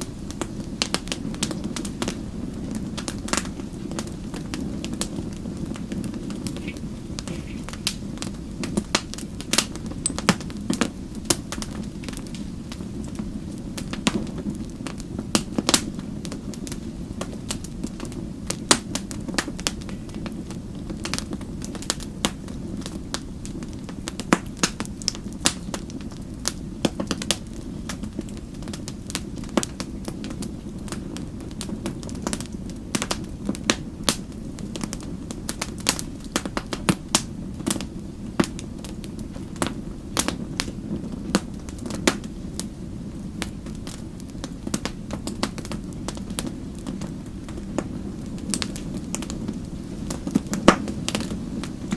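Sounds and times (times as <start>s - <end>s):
fire crackling and popping: 0.0s - 51.9s
low rumble of flames: 0.0s - 51.9s.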